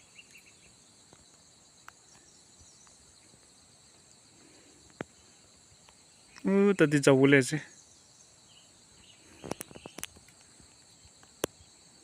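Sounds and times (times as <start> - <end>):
faint insect chorus: 0.0 - 12.0.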